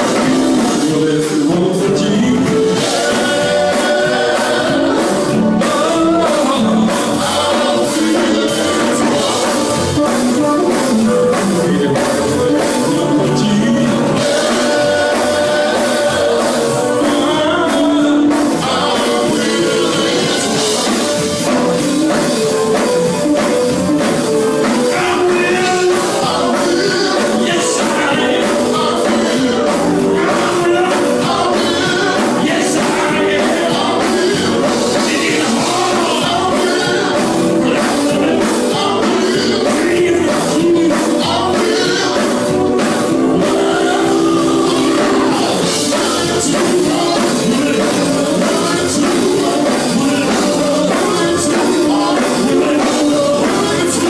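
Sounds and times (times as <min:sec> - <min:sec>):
band with steady drumbeat: 0:00.0 - 0:54.0
gospel voices singing: 0:00.0 - 0:54.0.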